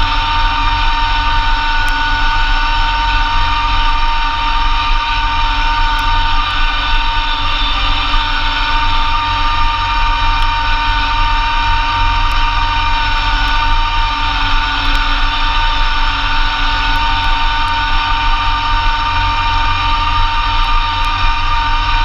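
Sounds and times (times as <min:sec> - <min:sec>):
snowblower high whine: 0:00.0 - 0:22.0
tractor diesel engine running: 0:00.0 - 0:22.0.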